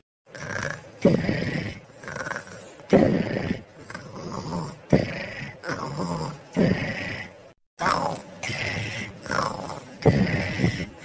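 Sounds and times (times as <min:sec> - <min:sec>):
cartoon snoring: 0:00.0 - 0:11.0.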